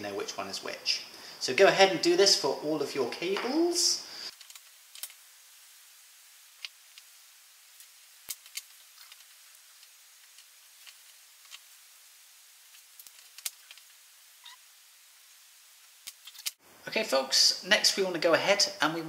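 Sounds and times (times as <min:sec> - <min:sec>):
low hiss: 0:00.0 - 0:19.0.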